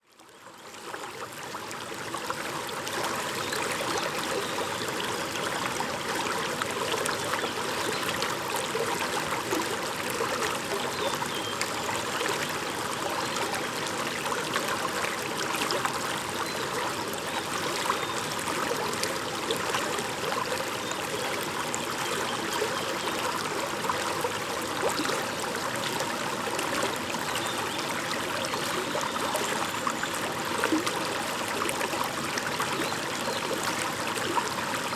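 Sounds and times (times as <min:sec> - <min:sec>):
stream babbling over stones: 0:00.4 - 0:34.9.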